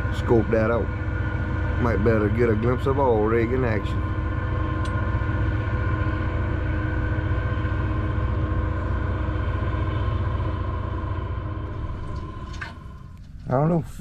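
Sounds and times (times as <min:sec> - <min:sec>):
boat engines rumbling: 0:00.0 - 0:14.0
high engine whine: 0:00.0 - 0:14.0.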